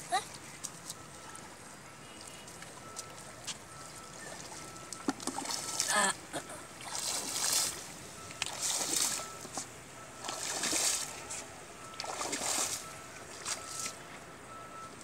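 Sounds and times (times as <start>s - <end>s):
pond water splashing: 0.0s - 14.2s.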